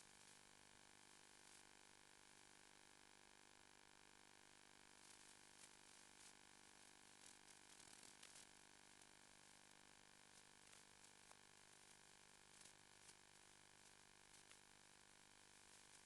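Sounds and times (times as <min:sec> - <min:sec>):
faint crackles: 0:00.0 - 0:03.0, 0:03.9 - 0:16.0
faint hiss and hum: 0:00.0 - 0:16.0.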